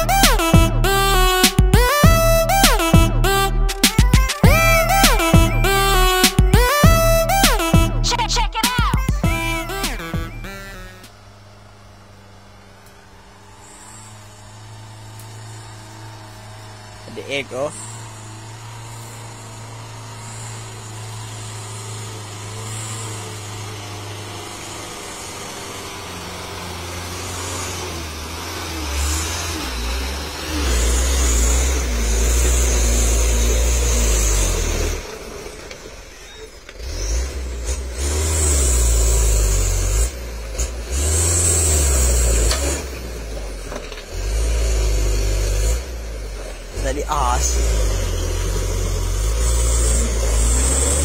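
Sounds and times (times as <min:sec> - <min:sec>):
diesel truck engine labouring: 0:00.0 - 0:51.0.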